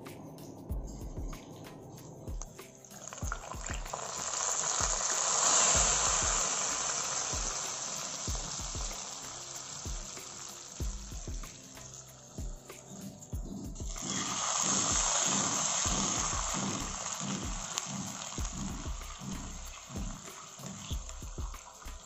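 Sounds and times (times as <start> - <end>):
hot oil sizzling: 2.4 - 22.0.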